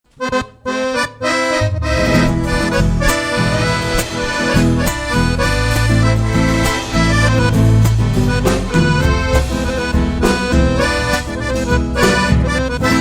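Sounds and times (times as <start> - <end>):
accordion melody: 0.1 - 13.0
folk band playing: 0.7 - 13.0.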